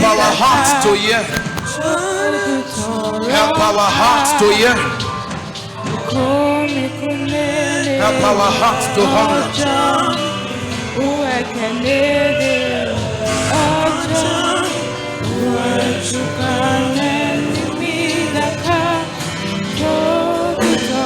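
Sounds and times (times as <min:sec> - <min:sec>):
gospel music with singing: 0:00.0 - 0:21.0.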